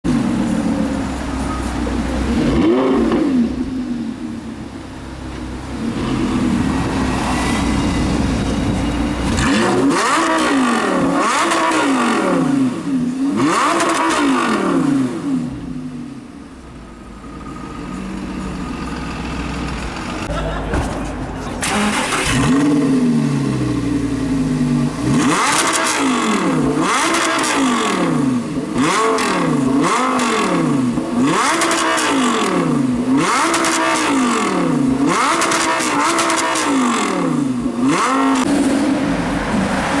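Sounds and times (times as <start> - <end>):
car engine revving: 1.9 - 4.4, 5.4 - 40.0.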